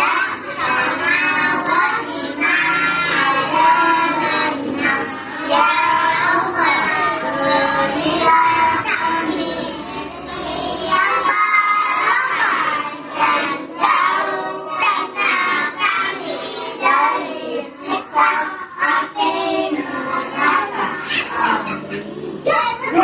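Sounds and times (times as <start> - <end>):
child singing: 0.0 - 23.0
children's song music: 0.0 - 23.0.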